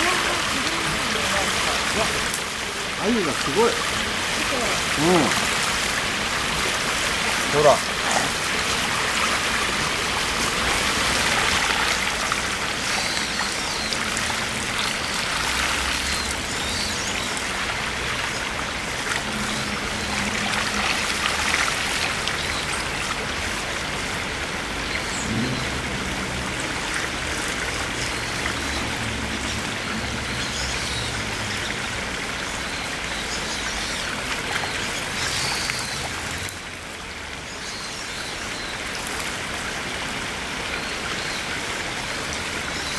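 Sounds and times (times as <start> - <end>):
river water running over gravel: 0.0 - 42.9
water spilling over stone well: 0.0 - 42.9.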